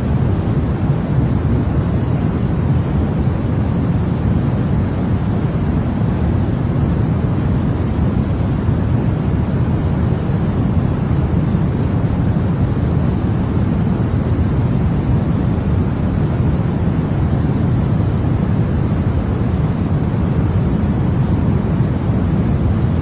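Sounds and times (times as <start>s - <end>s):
deep white noise: 0.0s - 23.0s.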